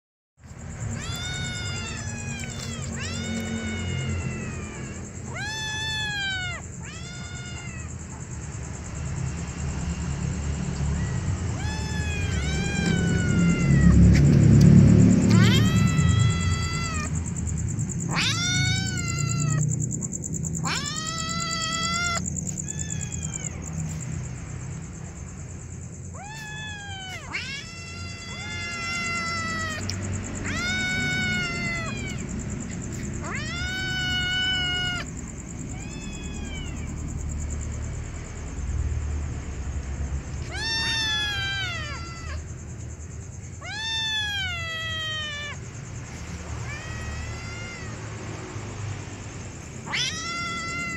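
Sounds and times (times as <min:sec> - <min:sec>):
kittens meowing: 0:00.6 - 0:08.5, 0:10.7 - 0:24.9, 0:26.0 - 0:37.6, 0:40.2 - 0:42.6, 0:43.5 - 0:48.2, 0:49.5 - 0:50.9.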